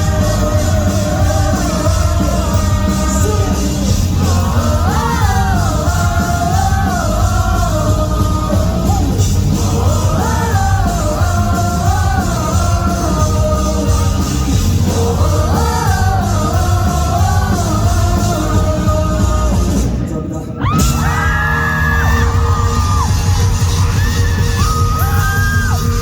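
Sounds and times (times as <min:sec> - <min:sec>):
heavy drums: 0:00.0 - 0:26.0
live rock band playing: 0:00.0 - 0:26.0.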